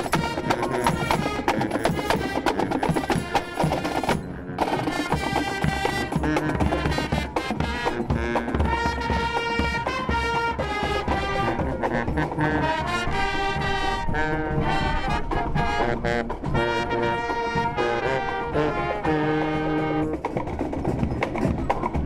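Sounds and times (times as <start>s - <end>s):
marching brass band playing: 0.0s - 22.0s.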